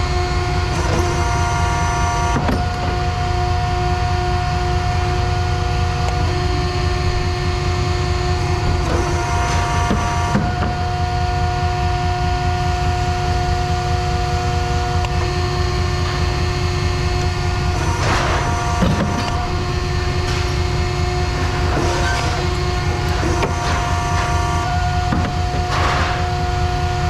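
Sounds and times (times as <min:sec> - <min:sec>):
constant machine whine: 0:00.0 - 0:27.0
heavy machinery rumbling: 0:00.0 - 0:27.0.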